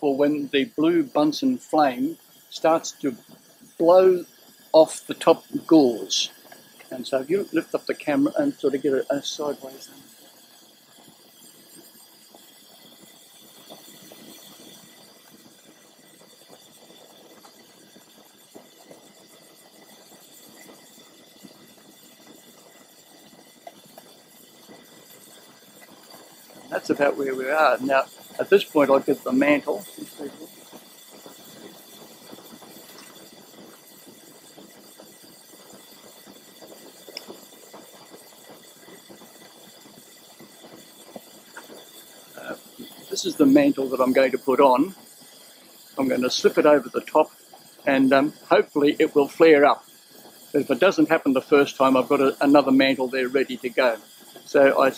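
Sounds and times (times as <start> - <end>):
burner hissing: 0.0 - 54.9.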